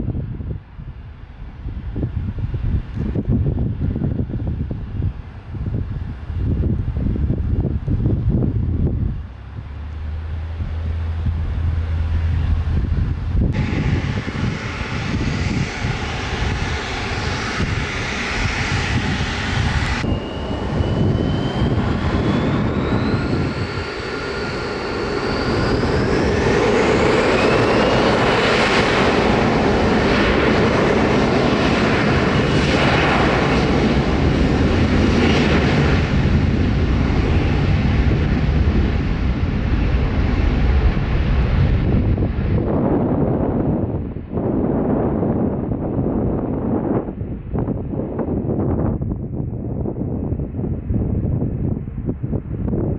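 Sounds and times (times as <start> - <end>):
jet engines spooling up and roaring: 0.1 - 52.9.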